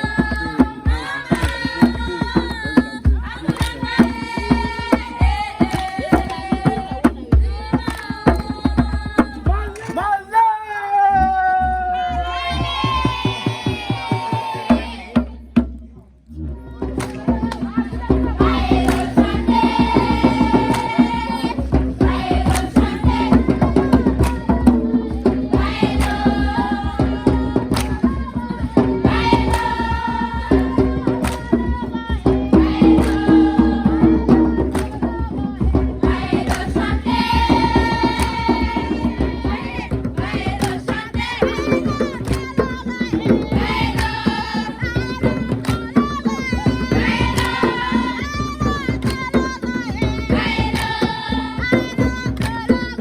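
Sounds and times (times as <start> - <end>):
hand drum beats: 0.0 - 10.2, 11.2 - 53.0
voices singing: 0.0 - 15.6, 16.3 - 53.0.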